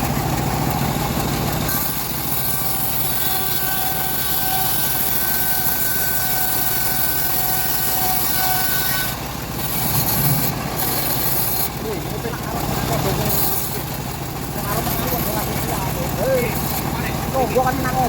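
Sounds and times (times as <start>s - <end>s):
bandsaw mill sawing log: 0.0s - 18.0s.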